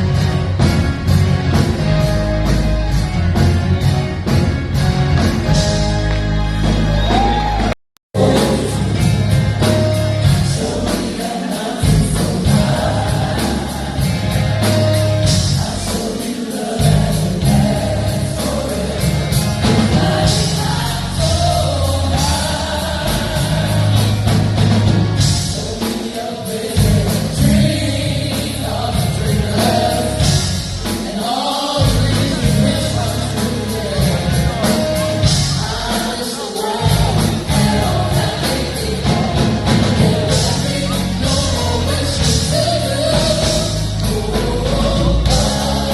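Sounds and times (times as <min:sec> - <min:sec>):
band with strong bass: 0:00.0 - 0:45.9
voices singing: 0:05.6 - 0:45.9.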